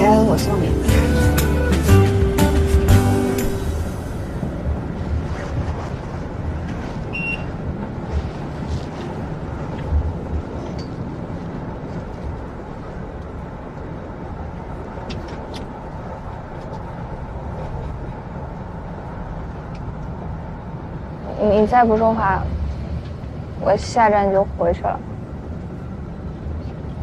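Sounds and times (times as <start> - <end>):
vehicle interior rumble: 0.0 - 27.0.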